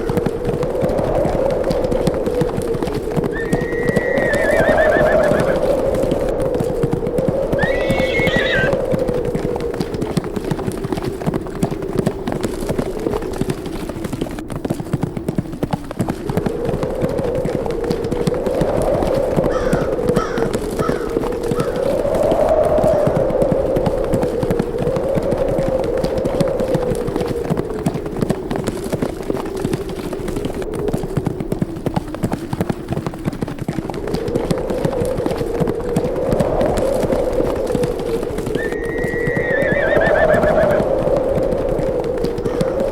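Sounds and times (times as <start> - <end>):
horses hooves galloping: 0.0 - 42.9
wind howling: 0.0 - 42.9.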